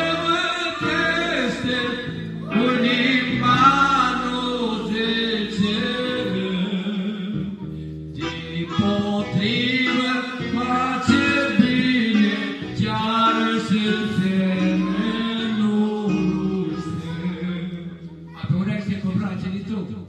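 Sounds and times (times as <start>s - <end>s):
man singing a hymn through loudspeaker: 0.0s - 7.6s, 8.2s - 20.0s
electronic keyboard: 0.0s - 19.4s.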